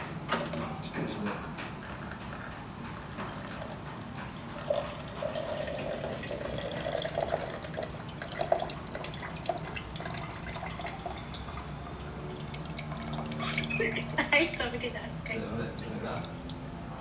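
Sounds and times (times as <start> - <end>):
water trickling into a plastic cup: 1.8 - 14.1, 15.3 - 16.7.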